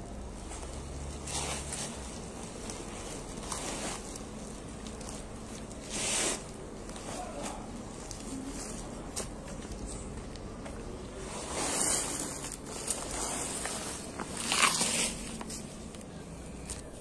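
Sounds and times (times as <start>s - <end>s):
rustling and scuffing: 0.3s - 17.0s.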